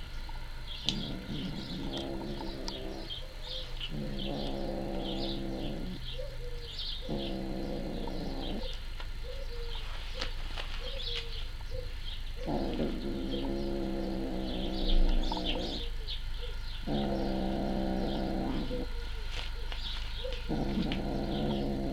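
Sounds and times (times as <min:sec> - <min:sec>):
long low animal cries: 0:00.8 - 0:09.8, 0:11.8 - 0:21.9.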